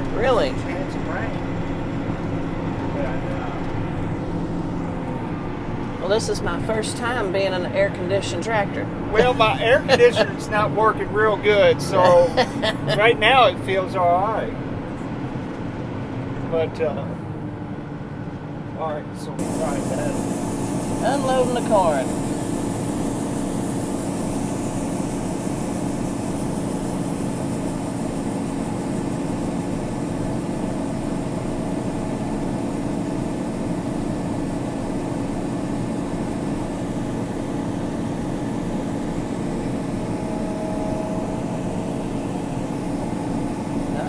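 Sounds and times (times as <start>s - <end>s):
tractor engine drone: 0.0s - 16.0s, 16.6s - 44.0s.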